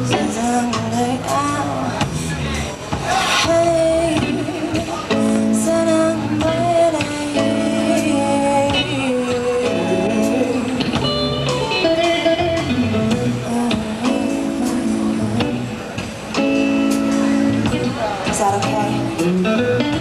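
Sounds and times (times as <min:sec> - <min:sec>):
guitar: 0:00.0 - 0:20.0
live band music: 0:00.0 - 0:20.0.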